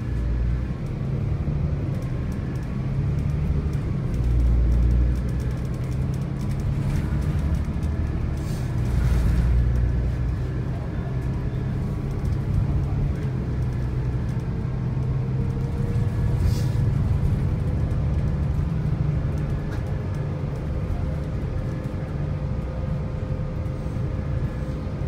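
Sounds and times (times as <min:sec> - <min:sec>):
bus diesel engine droning: 0:00.0 - 0:25.0
road rumble: 0:00.0 - 0:25.0.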